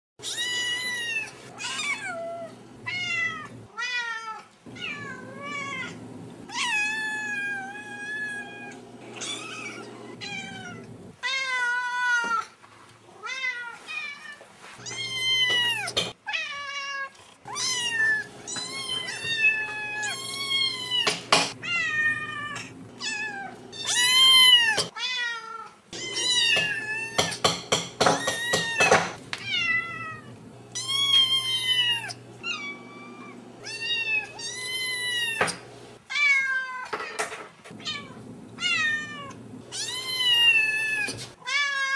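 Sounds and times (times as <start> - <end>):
cat meowing: 0.2 - 12.4, 13.2 - 27.3, 28.2 - 37.0, 37.8 - 41.9.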